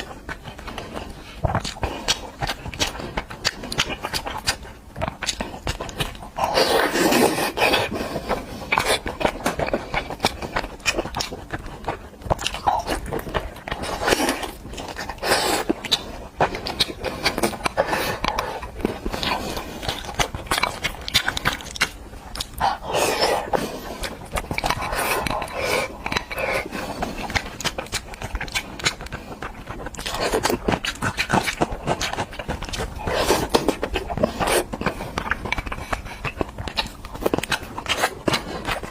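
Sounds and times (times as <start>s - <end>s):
person chewing and smacking: 0.0s - 38.9s.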